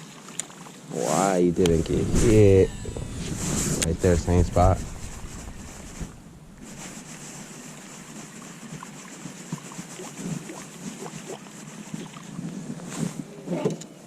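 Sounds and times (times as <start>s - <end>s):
wind and water hiss: 0.0s - 14.0s.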